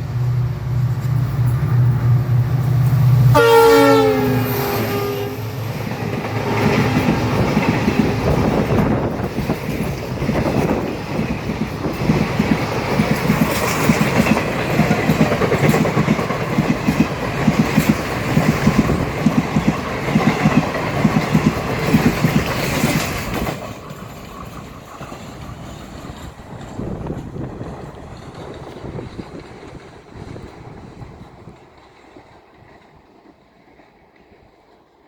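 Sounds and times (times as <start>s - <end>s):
rush of wind: 4.6s - 33.8s
train wheels clattering over rail joints: 5.5s - 34.7s.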